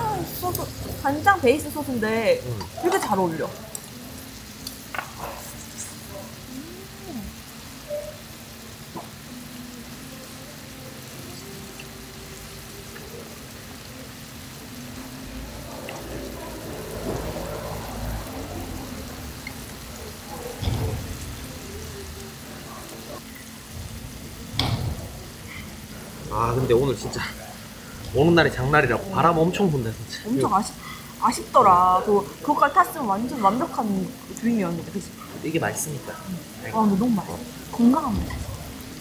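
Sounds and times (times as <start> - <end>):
food sizzling on a griddle: 0.0 - 39.0.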